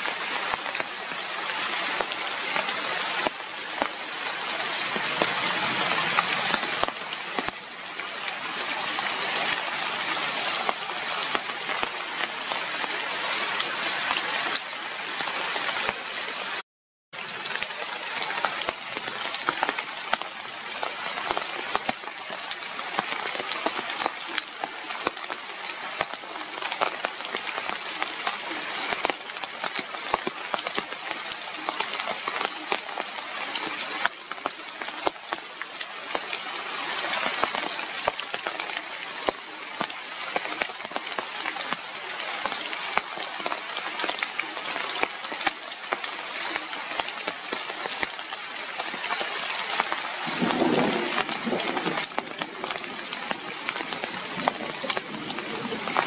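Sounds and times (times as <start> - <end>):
rain pattering: 0.0 - 16.6, 17.2 - 56.0.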